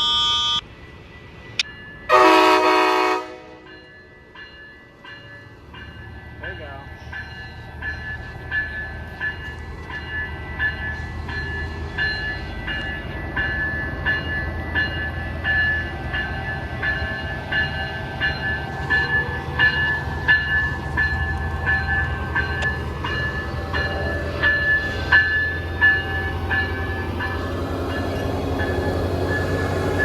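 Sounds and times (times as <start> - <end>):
diesel train engine rumble: 0.0 - 30.0
train bell ringing: 0.0 - 30.0.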